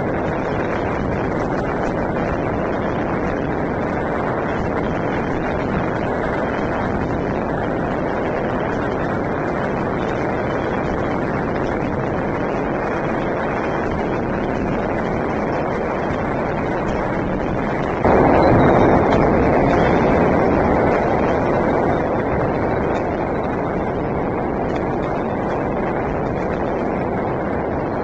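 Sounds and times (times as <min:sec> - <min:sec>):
fireworks and firecrackers bangs: 0:00.0 - 0:28.0.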